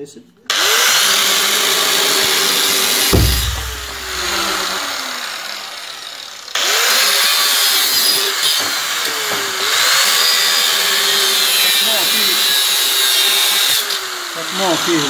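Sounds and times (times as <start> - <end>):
angle grinder whining: 0.5 - 15.0.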